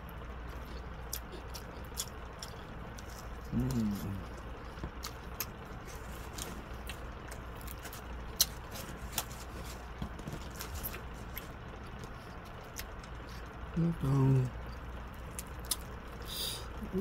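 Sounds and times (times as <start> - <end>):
chewing: 0.0 - 13.8, 14.6 - 16.2
steady low hum: 0.0 - 17.0.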